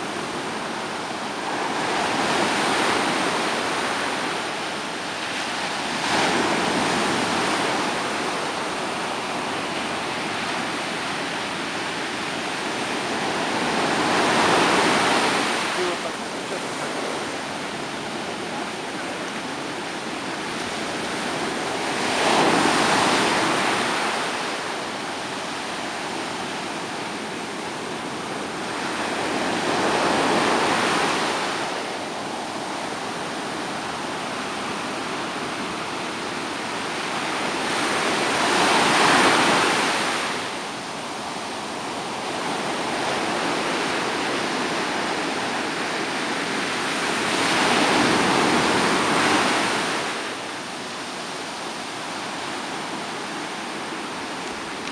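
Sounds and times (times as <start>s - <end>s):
rush of water: 0.0s - 54.9s
waves breaking: 0.0s - 54.9s.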